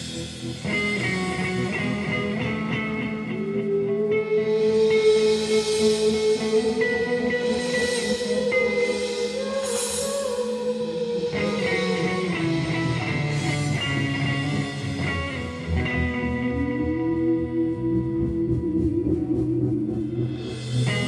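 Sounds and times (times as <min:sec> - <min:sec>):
drums: 0:00.0 - 0:21.0
held electric guitar notes: 0:00.0 - 0:21.0.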